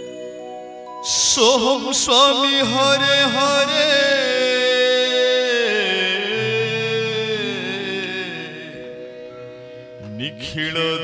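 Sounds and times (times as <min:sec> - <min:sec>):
devotional singing with accompaniment: 0:00.8 - 0:11.0.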